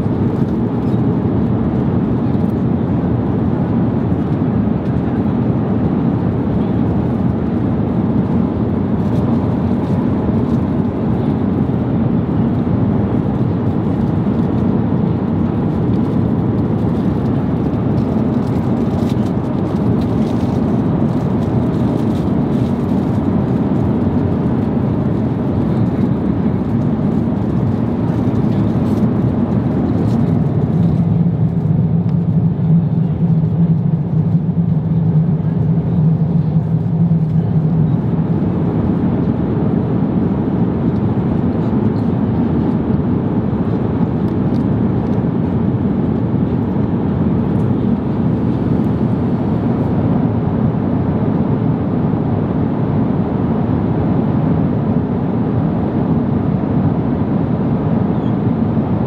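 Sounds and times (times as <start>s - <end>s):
airplane cabin airflow and engines: 0.0s - 59.0s
low steady hum: 0.0s - 59.0s.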